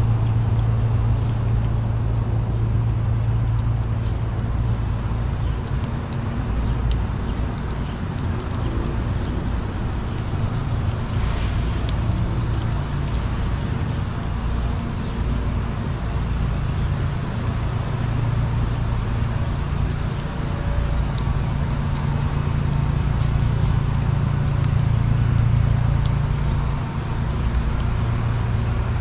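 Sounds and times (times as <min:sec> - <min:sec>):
low rumble of traffic: 0:00.0 - 0:29.0
squirrel gnawing clicks: 0:00.0 - 0:29.0.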